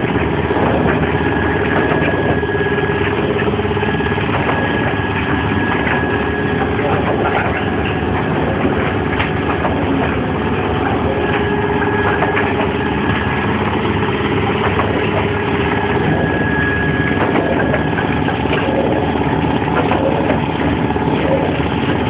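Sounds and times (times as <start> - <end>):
high whine: 0.0 - 22.0
mechanical hum: 0.0 - 22.0.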